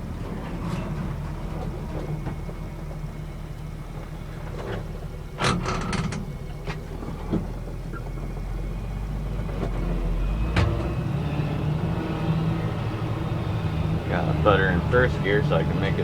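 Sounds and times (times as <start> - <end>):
rattles and clunks: 0.0 - 16.0
truck engine running low: 0.0 - 16.0
truck knocking over bumps: 0.0 - 16.0.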